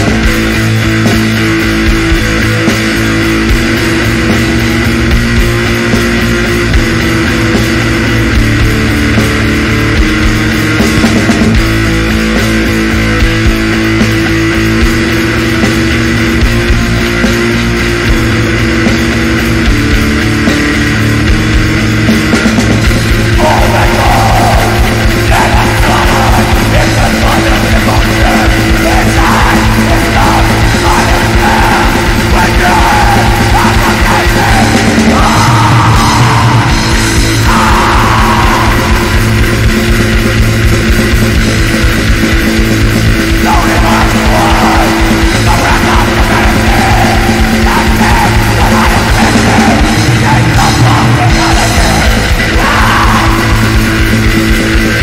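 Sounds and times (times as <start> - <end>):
distorted guitars: 0.0 - 55.0
drums: 0.0 - 55.0
harsh yelled vocals: 0.0 - 55.0.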